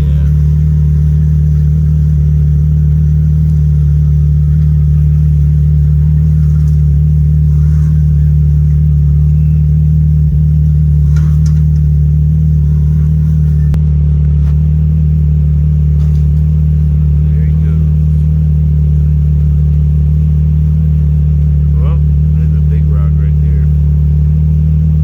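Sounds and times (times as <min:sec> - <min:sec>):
vehicle engine running steadily: 0:00.0 - 0:25.0.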